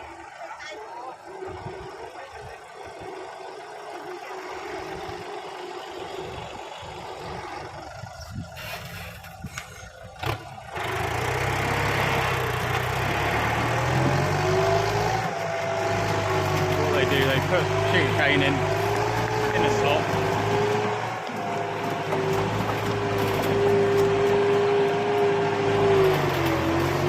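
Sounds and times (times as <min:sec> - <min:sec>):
tractor diesel engine running: 0:00.0 - 0:27.0
engine knocks: 0:01.2 - 0:27.0.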